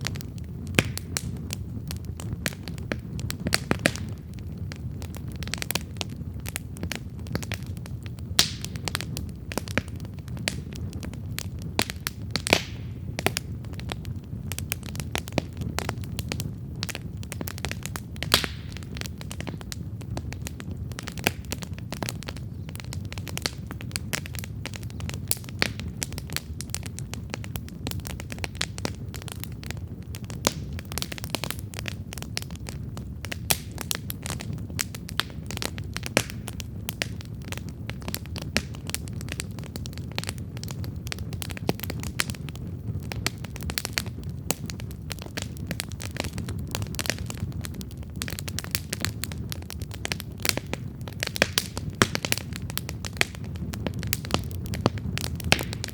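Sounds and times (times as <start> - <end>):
campfire crackling: 0.0 - 55.9
low rumble of flames: 0.0 - 55.9
sharp pops of burning wood: 0.0 - 55.9.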